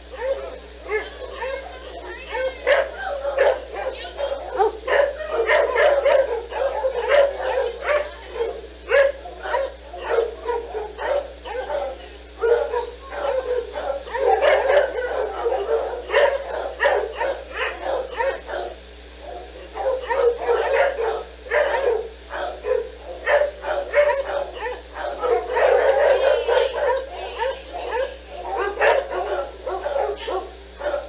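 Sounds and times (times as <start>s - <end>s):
dogs barking: 0.0s - 31.0s.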